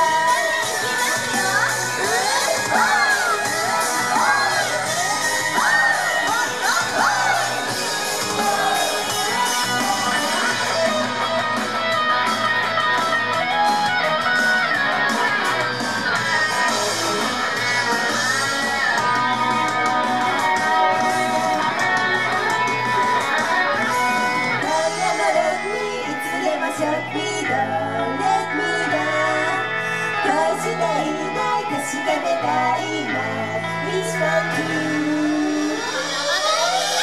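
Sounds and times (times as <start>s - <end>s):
pop-rock song with electric guitar: 0.0s - 37.0s.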